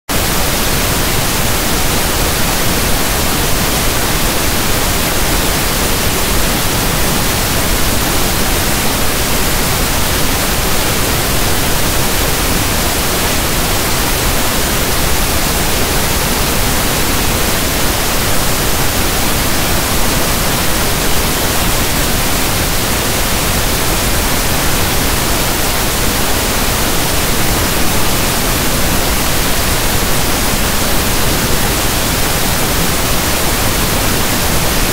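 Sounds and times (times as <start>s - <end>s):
pink noise static hiss: 0.1s - 34.9s.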